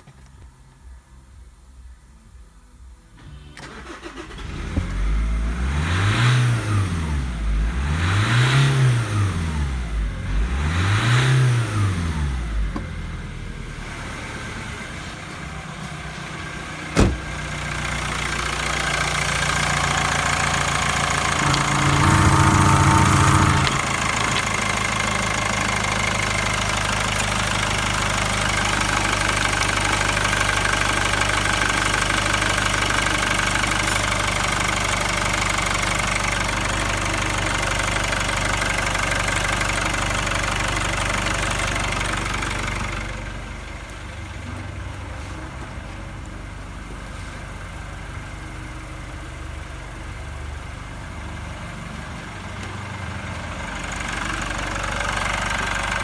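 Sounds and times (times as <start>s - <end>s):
diesel engine starting and revving: 3.1s - 56.0s.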